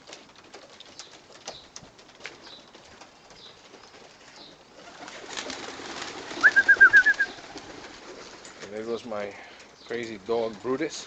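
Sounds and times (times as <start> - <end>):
pigeons cooing: 0.0 - 10.1
wings flapping: 0.0 - 11.0.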